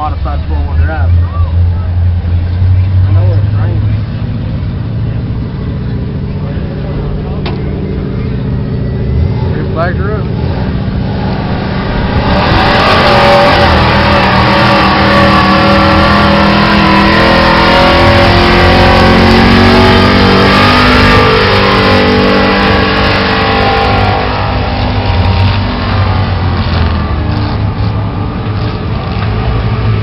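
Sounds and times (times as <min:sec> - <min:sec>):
truck engine at high revs: 0:00.0 - 0:30.0.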